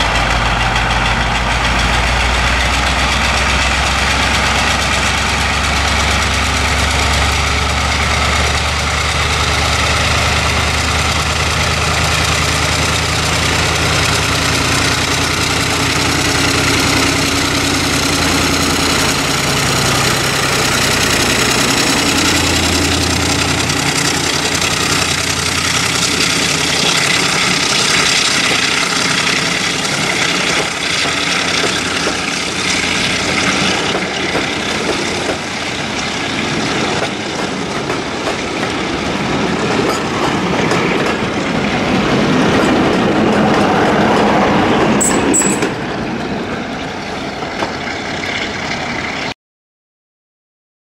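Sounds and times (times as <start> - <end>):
diesel locomotive engine under load: 0.0 - 49.3
wheels rumbling on rail: 0.0 - 49.3.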